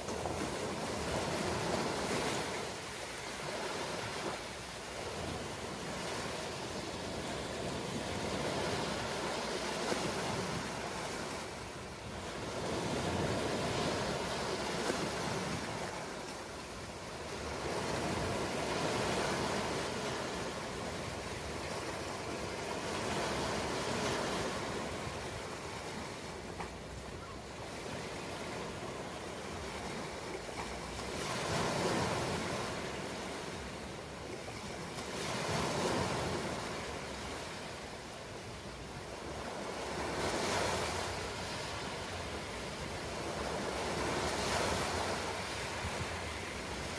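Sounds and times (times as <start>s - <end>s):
ocean waves washing onto shore: 0.0s - 46.9s.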